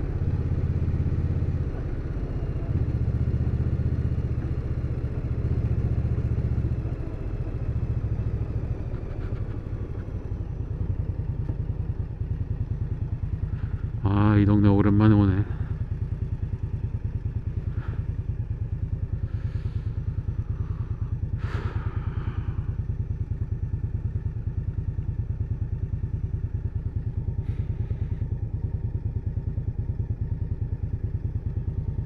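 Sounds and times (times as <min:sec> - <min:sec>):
faint traffic: 0:00.0 - 0:32.0
motorcycle engine idling: 0:00.0 - 0:32.0.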